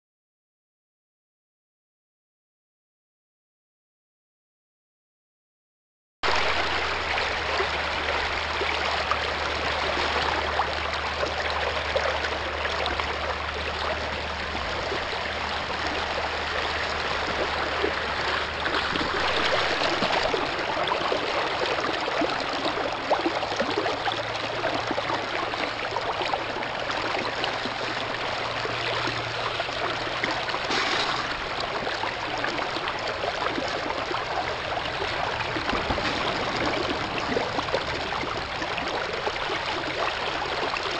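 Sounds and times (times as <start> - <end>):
water rushing through sluice box: 6.2 - 40.9.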